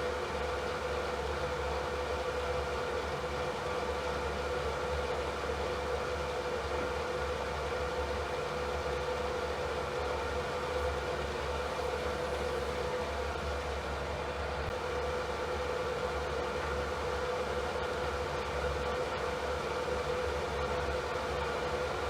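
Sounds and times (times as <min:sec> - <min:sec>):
electric fan running: 0:00.0 - 0:22.0.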